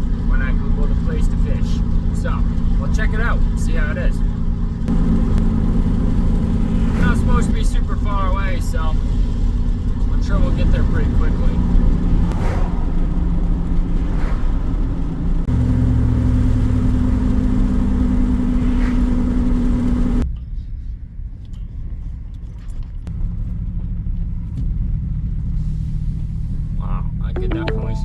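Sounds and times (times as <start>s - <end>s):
truck engine from inside cab: 0.0s - 20.5s, 22.3s - 28.0s.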